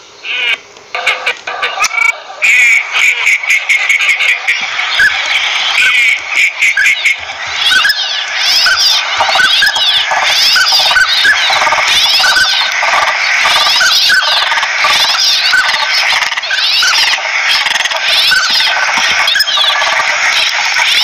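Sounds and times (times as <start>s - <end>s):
ducks whistling and calling: 0.2s - 21.0s.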